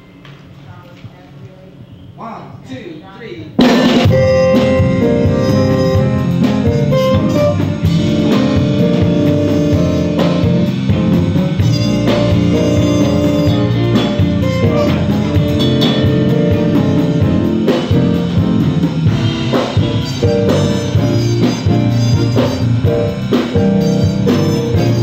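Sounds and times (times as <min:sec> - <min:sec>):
band music: 0:03.5 - 0:25.0
drums hitting: 0:03.5 - 0:25.0.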